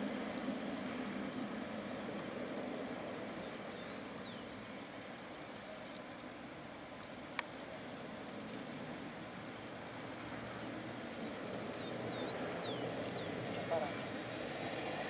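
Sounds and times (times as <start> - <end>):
distant jet engines rumbling: 0.0 - 15.0
insects chirping: 0.0 - 15.0.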